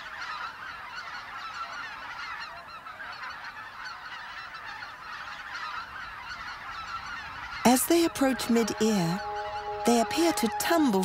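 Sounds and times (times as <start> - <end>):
flock of geese honking: 0.0 - 11.0.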